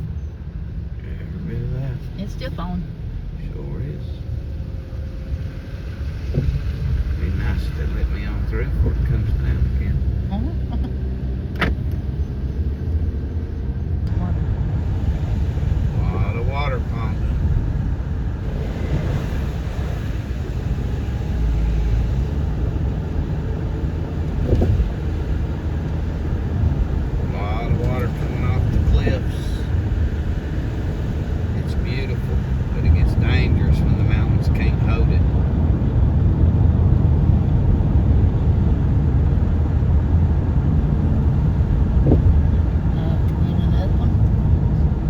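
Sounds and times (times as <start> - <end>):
car interior road rumble: 0.0 - 45.0.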